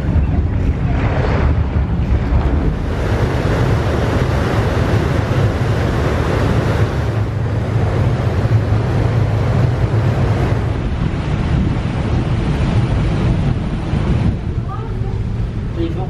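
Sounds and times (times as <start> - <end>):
ferry engine drone: 0.0 - 16.0
rushing wake water: 0.0 - 16.0
wind buffeting microphone: 0.0 - 16.0.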